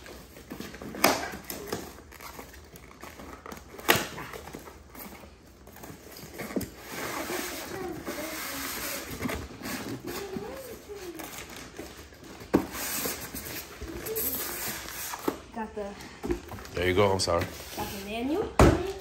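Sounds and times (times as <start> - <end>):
packaging rustling: 0.0 - 15.4.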